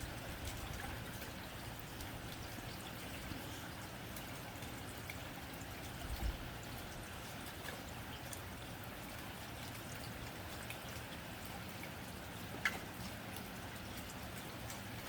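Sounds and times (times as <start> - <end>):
rain on a tin roof: 0.0 - 15.0.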